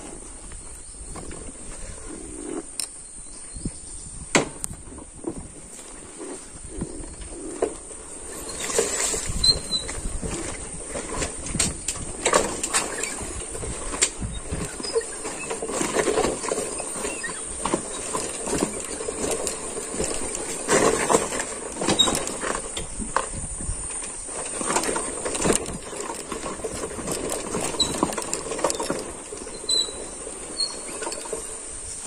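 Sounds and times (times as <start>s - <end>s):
vehicle rattling over potholes: 5.0s - 32.0s.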